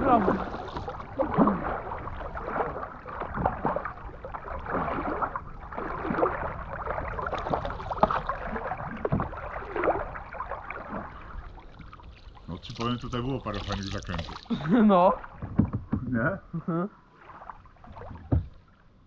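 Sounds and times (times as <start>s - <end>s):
paddles splashing in water: 0.0s - 16.1s, 17.0s - 19.0s
water sloshing: 0.0s - 19.0s.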